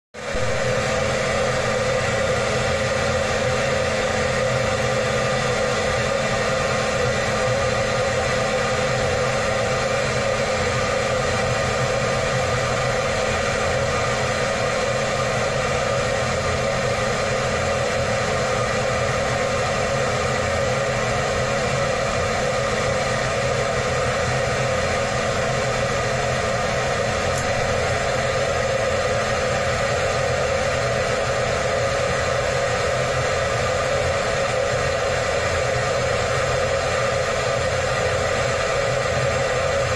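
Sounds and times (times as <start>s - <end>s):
heater blower fan whirring: 0.2s - 39.9s.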